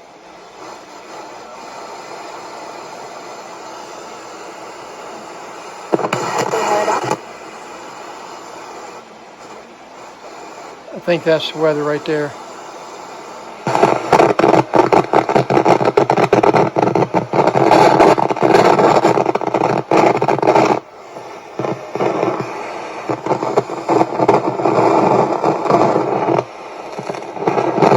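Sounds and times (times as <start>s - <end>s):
radio static and hiss: 0.0s - 27.9s.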